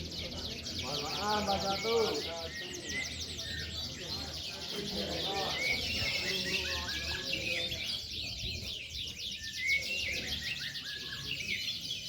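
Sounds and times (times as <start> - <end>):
canaries singing: 0.0 - 12.0
faint murmur of voices: 0.0 - 12.0.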